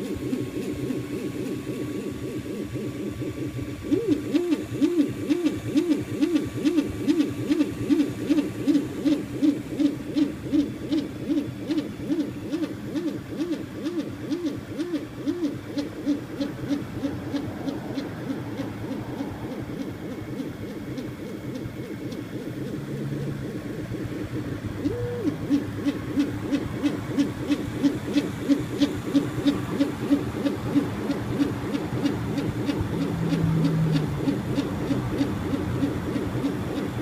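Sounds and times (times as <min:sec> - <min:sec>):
quiet steady hum: 0:00.0 - 0:37.0
stepper motors whining: 0:00.0 - 0:37.0.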